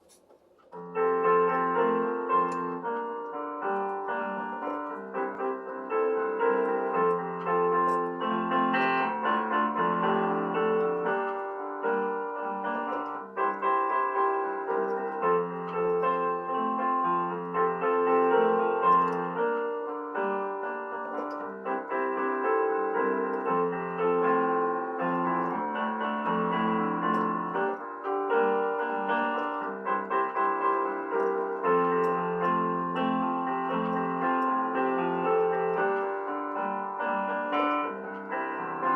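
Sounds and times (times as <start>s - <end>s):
slow gentle piano piece: 0.0s - 38.9s.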